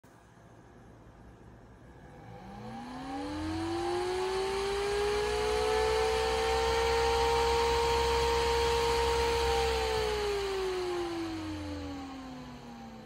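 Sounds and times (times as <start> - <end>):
computer fan whine: 0.1 - 13.0.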